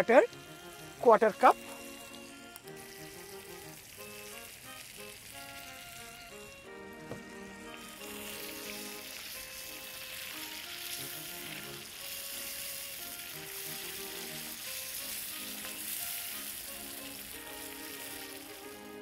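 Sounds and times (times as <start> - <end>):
curry sizzling in a frying pan: 0.0 - 19.0
soft background music: 0.0 - 19.0.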